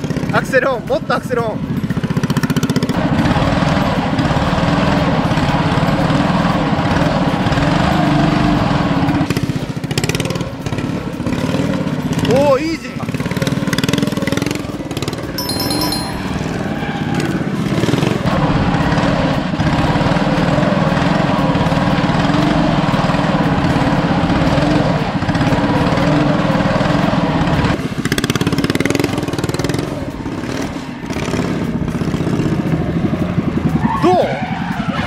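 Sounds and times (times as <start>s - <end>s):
kart engine revving: 1.6s - 12.4s, 13.0s - 15.2s, 16.6s - 35.0s.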